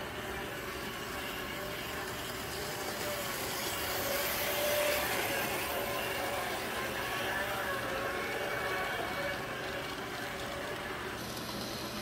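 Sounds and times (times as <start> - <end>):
model train motor whir: 0.0 - 12.0
model train wheel rumble: 0.0 - 12.0.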